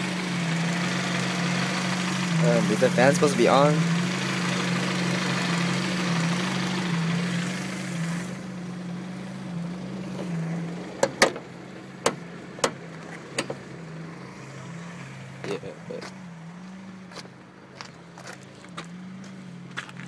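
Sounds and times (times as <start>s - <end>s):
car engine idling: 0.0s - 19.8s.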